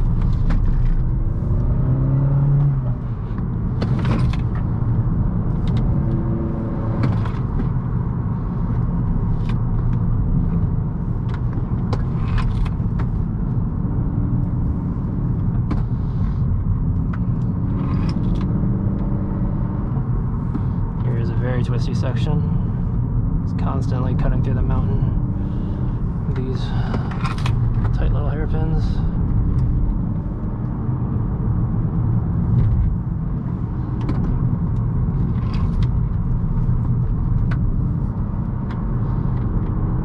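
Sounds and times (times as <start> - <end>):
car engine running: 0.0 - 40.0
road rumble: 0.0 - 40.0.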